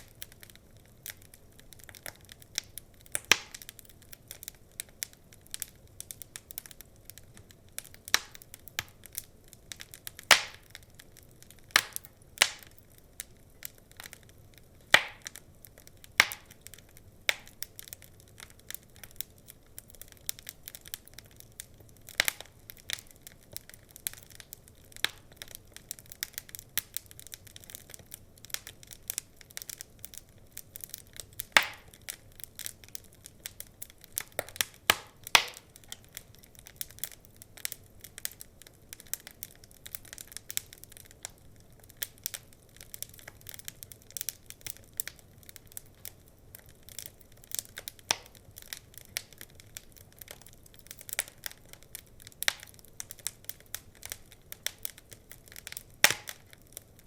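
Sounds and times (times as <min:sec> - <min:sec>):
burning logs crackling: 0:00.0 - 0:57.0.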